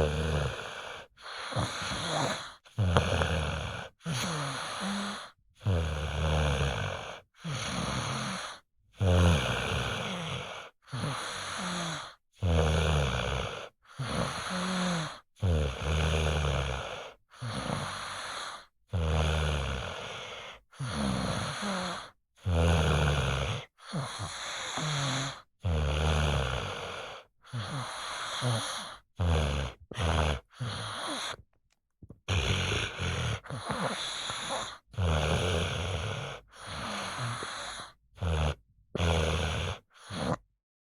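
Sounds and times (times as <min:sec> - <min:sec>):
low droning snores: 0:00.0 - 0:31.4, 0:32.3 - 0:40.5.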